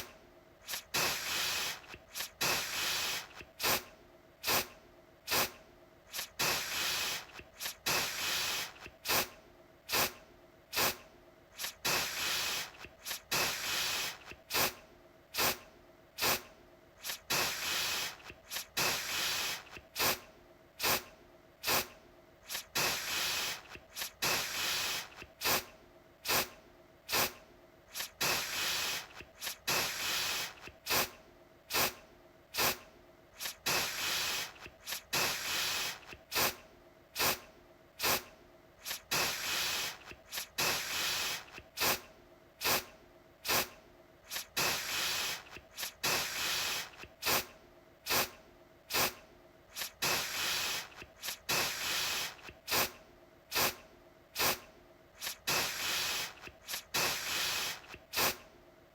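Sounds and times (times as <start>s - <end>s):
aerosol can spraying: 0.6s - 4.7s, 5.3s - 11.0s, 11.6s - 14.8s, 15.4s - 15.6s, 16.2s - 20.2s, 20.8s - 32.0s, 32.6s - 32.8s, 33.4s - 36.6s, 37.2s - 37.4s, 38.0s - 43.7s, 44.3s - 47.5s, 48.1s - 53.8s, 54.4s - 54.6s, 55.2s - 58.4s.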